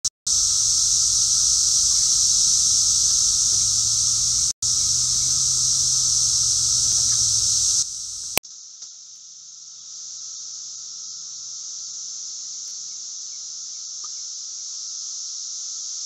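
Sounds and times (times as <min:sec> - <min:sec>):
cicadas droning: 0:00.3 - 0:16.0.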